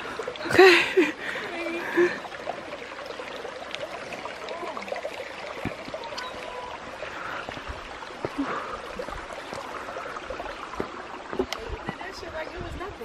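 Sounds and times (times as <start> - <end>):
stream flowing over rocks: 0.0 - 13.0.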